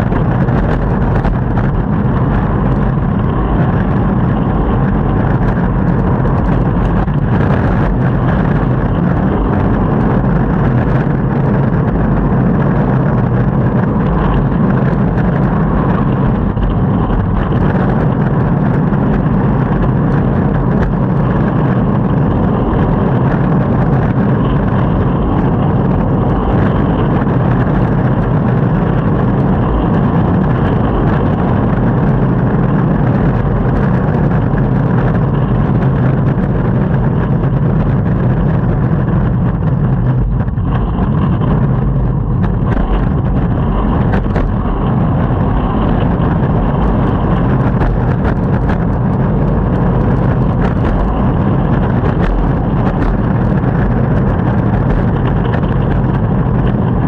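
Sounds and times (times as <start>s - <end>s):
longboard wheels rolling on pavement: 0.0s - 57.0s.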